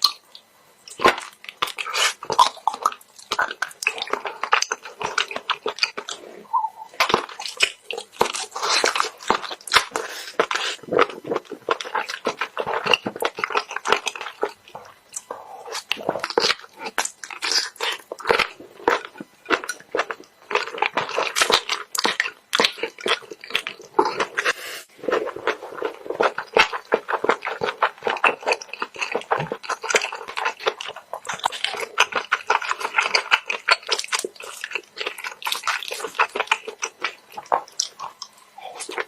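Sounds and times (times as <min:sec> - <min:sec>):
wet crunchy chewing: 0:00.0 - 0:39.0.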